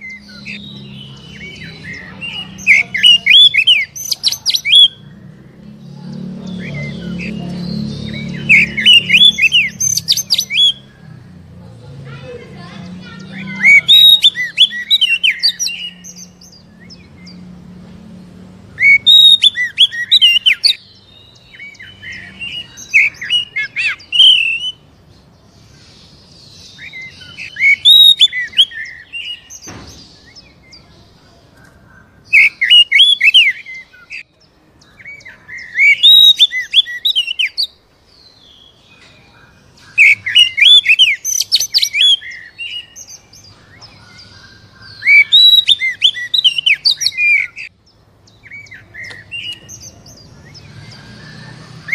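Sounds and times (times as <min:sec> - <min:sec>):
bird singing whistles and chirps: 0:00.0 - 0:05.5, 0:06.1 - 0:10.9, 0:13.1 - 0:17.4, 0:18.7 - 0:24.9, 0:25.6 - 0:31.0, 0:32.3 - 0:51.9.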